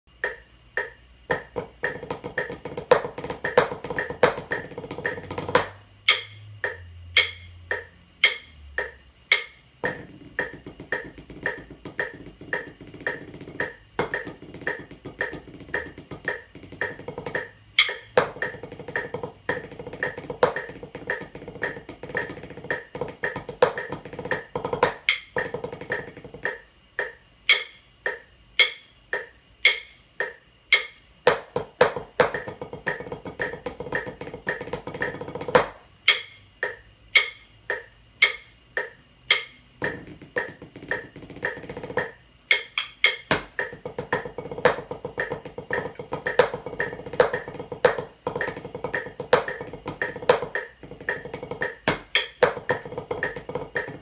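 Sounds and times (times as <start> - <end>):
drumsticks on practice pad: 0.1 - 54.0.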